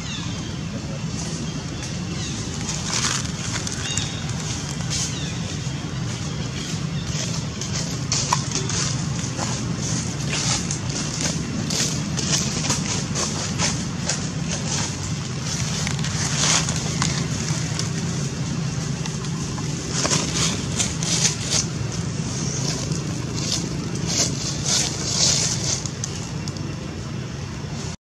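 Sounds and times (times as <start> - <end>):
steady low hum: 0.0 - 28.0
crackling rustles: 0.8 - 28.0.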